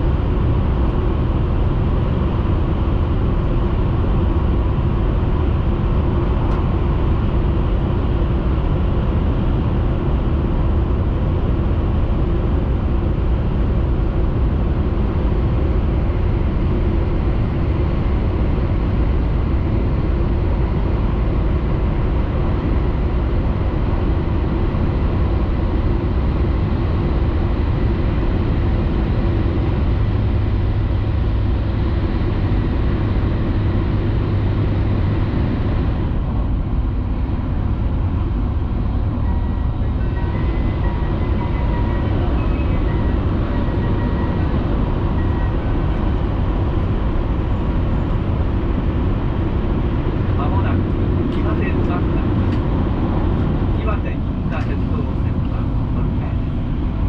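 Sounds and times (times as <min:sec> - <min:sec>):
train cabin rumble and rushing: 0:00.0 - 0:57.0.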